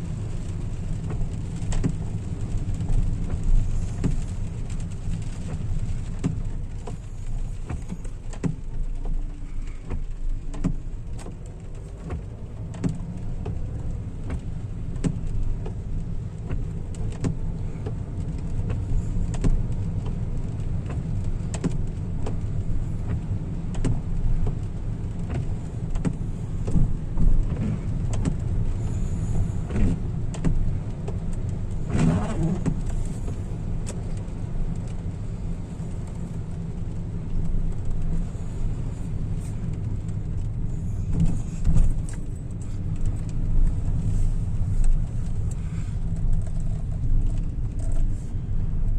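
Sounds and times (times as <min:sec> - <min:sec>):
car road and engine rumble: 0:00.0 - 0:48.9
raindrops ticking on car: 0:00.0 - 0:48.9.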